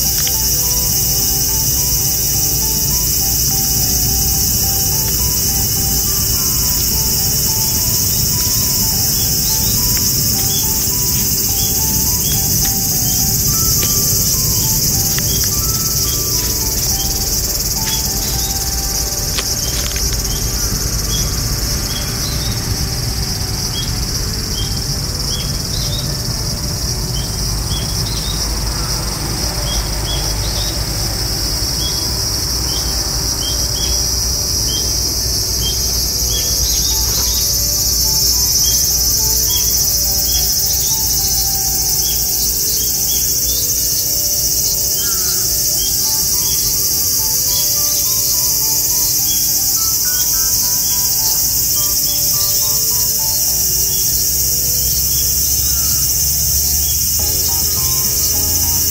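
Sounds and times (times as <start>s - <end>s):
insect chorus shrilling: 0.0s - 58.9s
short insect chirps: 0.0s - 58.9s.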